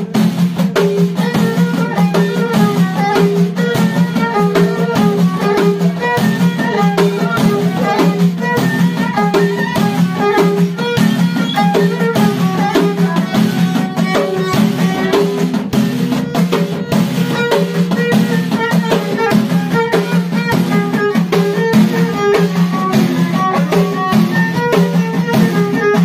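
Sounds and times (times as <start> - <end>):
hand frame drums beating: 0.0 - 26.0
bowed violin: 0.7 - 26.0.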